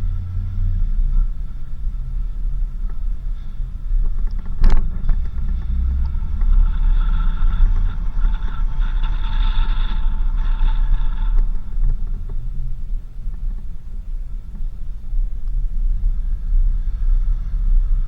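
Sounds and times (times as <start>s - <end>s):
vehicle engine and tyres rumbling: 0.0s - 18.0s.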